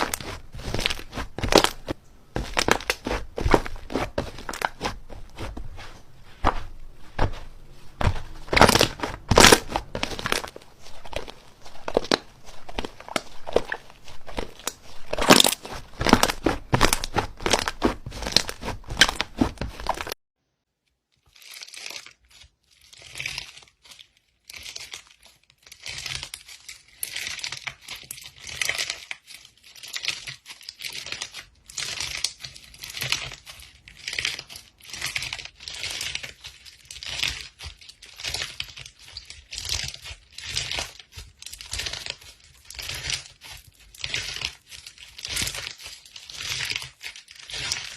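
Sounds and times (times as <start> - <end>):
slime squishing and crackling: 0.0 - 20.2, 21.3 - 47.9.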